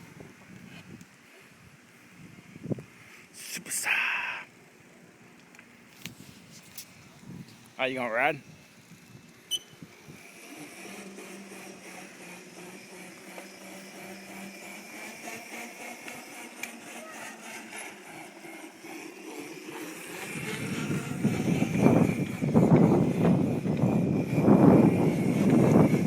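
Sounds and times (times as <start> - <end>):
atv engine hum: 4.5 - 26.0.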